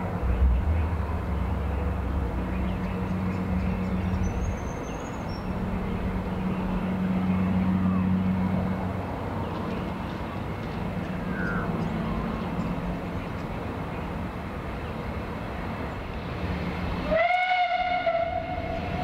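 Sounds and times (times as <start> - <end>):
low engine hum: 0.0 - 17.3.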